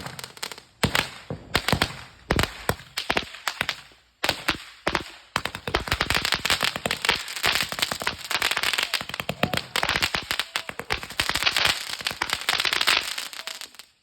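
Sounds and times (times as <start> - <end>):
firecracker cracks and pops: 0.0 - 14.0.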